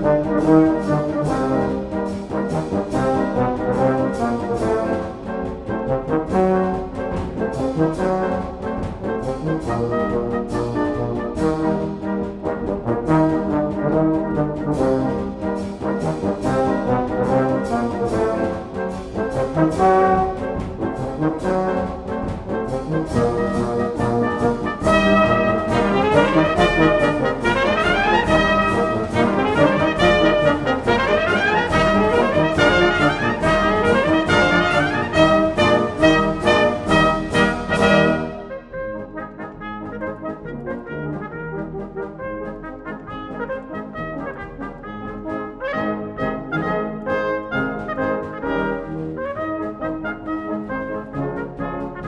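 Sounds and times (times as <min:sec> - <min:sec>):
brass band playing: 0:00.0 - 0:52.0.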